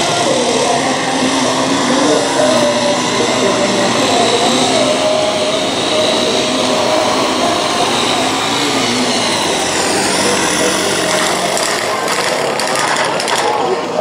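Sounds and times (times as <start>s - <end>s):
motorcycle engines droning: 0.0s - 14.0s.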